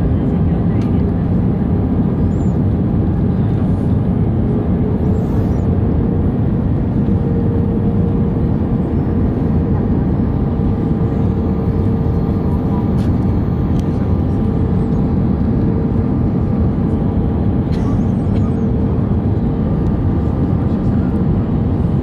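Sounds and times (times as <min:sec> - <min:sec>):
airflow and jet engines in cabin: 0:00.0 - 0:22.0.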